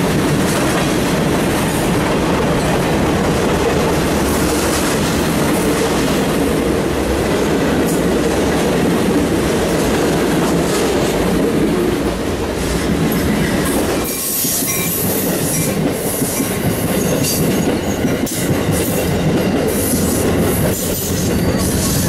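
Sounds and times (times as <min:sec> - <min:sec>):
train cars rolling past: 0:00.0 - 0:22.0.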